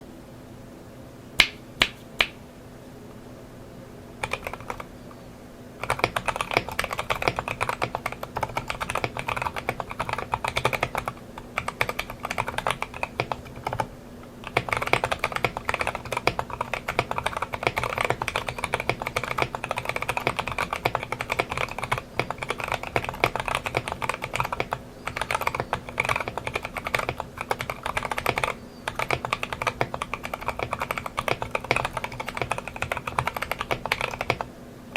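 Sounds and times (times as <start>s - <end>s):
mechanical keyboard typing: 4.2s - 4.9s, 5.8s - 34.5s.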